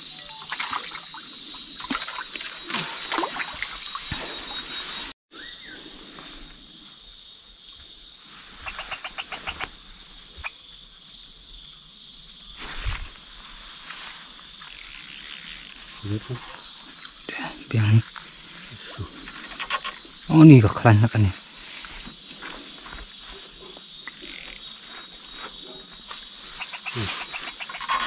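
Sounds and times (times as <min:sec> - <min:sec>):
insects shrilling: 0:00.0 - 0:28.0.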